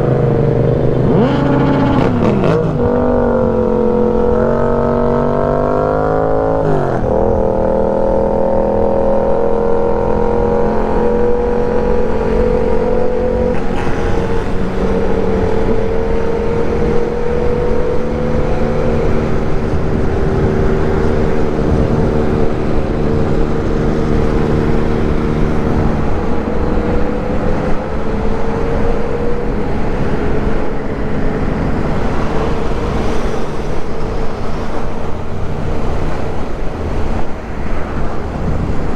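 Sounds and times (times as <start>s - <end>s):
motorcycle engine running: 0.0s - 37.4s
wind buffeting microphone: 0.0s - 38.9s.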